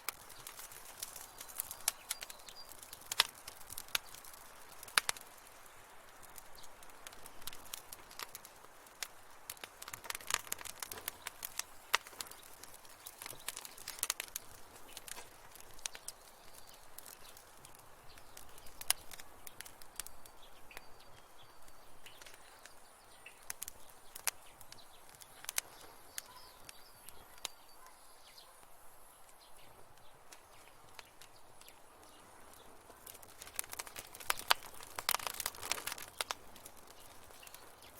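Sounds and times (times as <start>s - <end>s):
wood fire crackling: 0.0s - 37.9s.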